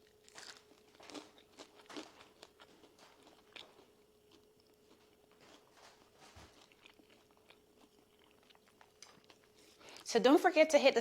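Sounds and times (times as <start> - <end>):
chewing crispy fried plantain: 0.0 - 10.1
faint steady hum: 0.0 - 11.0.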